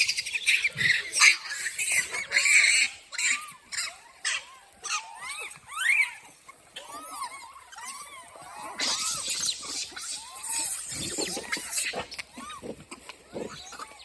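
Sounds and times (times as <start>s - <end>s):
monkey squeaking calls: 0.0s - 14.0s.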